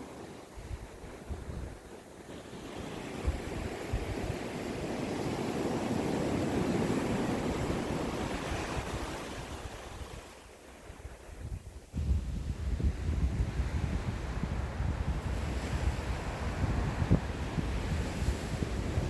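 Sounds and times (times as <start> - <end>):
ocean waves washing on shore: 0.0 - 19.0
wind rumble on microphone: 0.0 - 19.0.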